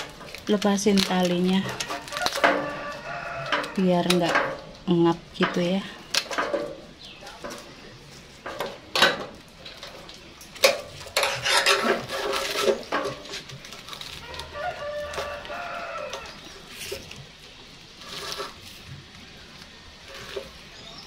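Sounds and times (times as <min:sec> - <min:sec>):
rustling of plant handling: 0:00.0 - 0:21.0.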